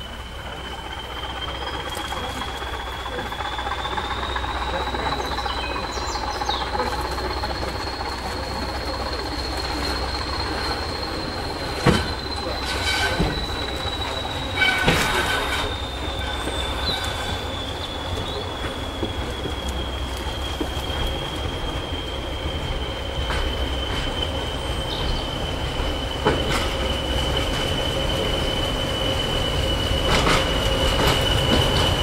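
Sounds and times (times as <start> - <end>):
train low rumble: 0.0 - 32.0
train wheels squealing: 0.0 - 32.0
wheels clanking over rail joints: 0.0 - 32.0.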